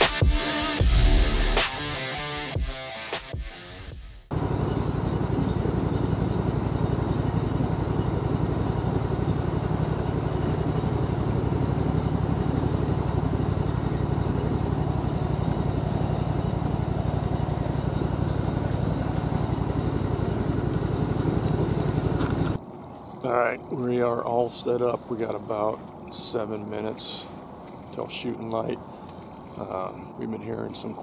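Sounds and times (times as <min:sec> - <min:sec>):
outboard motor running: 0:00.0 - 0:01.7, 0:04.3 - 0:31.0.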